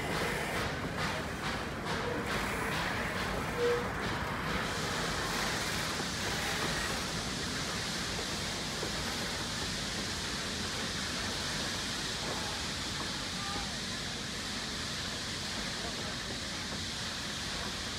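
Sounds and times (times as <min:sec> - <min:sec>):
train rumbling over trestle bridge: 0:00.0 - 0:17.9.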